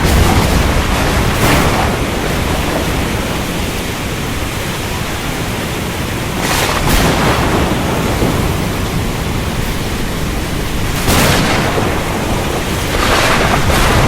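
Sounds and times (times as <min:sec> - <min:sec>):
rain roaring: 0:00.0 - 0:14.0
surf roaring: 0:00.0 - 0:14.0.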